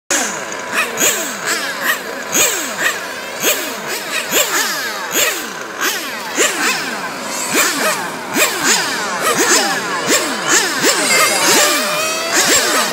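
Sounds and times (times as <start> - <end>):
electric motors whining: 0.1 - 12.9.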